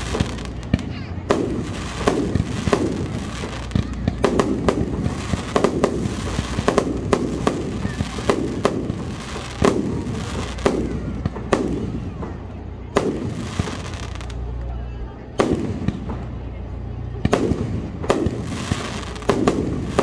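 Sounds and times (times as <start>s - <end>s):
fireworks bursting with echo: 0.0s - 20.0s.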